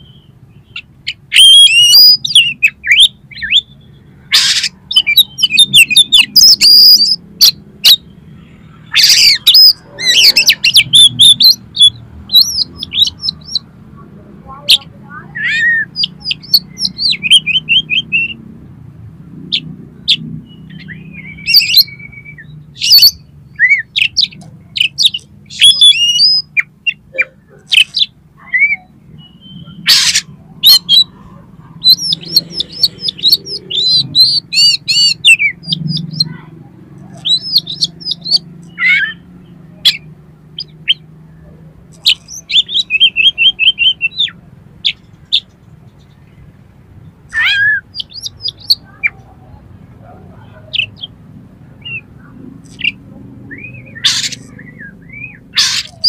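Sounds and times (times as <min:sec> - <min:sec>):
magpie-robin singing: 0:00.0 - 0:18.5, 0:19.5 - 0:56.0.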